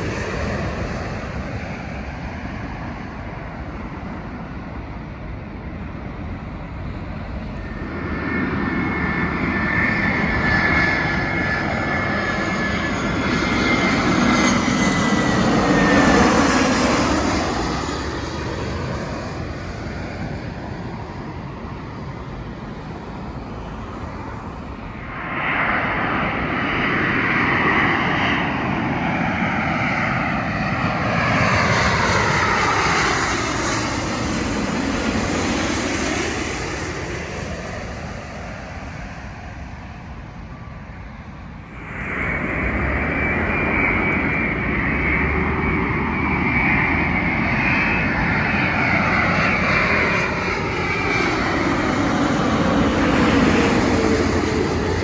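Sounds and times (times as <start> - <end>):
high jet engine whine: 0.0 - 55.0
jet airliners passing overhead: 0.0 - 55.0.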